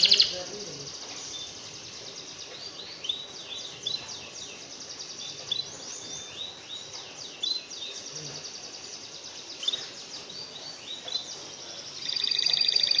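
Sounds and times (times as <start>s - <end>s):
high fast bird twittering: 0.0s - 6.7s, 7.4s - 13.0s.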